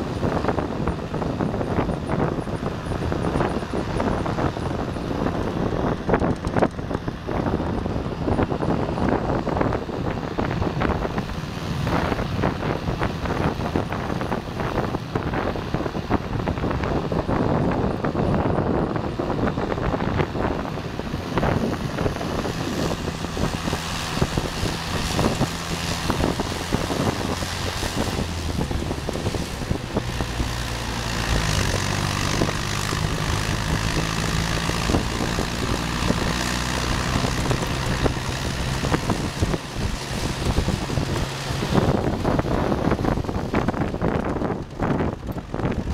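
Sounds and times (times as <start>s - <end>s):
vehicle engine drone: 0.0s - 45.9s
wind buffeting microphone: 0.0s - 45.9s.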